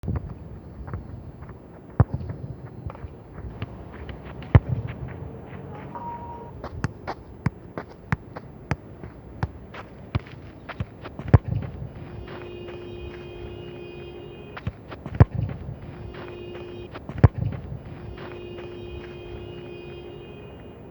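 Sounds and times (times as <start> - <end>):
football kicked with dull thud: 0.0 - 20.6
light ball taps: 0.1 - 19.4.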